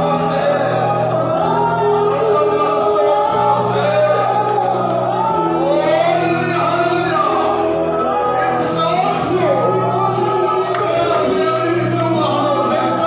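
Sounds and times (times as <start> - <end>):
voices singing together: 0.0 - 13.0.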